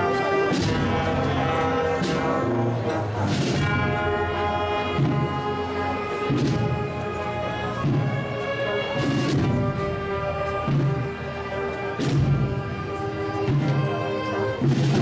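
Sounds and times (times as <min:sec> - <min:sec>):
held brass chords: 0:00.0 - 0:15.0
drum strokes: 0:00.1 - 0:15.0.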